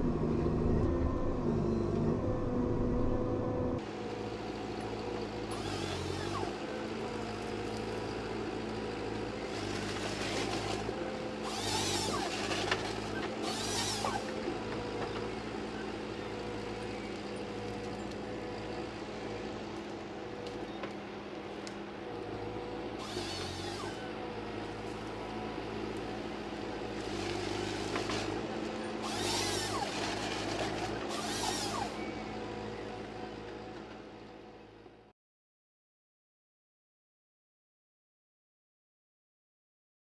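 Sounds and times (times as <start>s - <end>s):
machine engine running: 0.0s - 21.2s, 21.9s - 34.6s.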